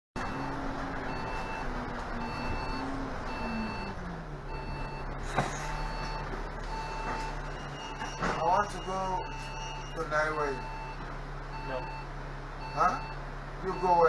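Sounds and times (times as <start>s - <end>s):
bus engine drone: 0.2s - 14.0s
electronic warning beep: 0.2s - 14.0s.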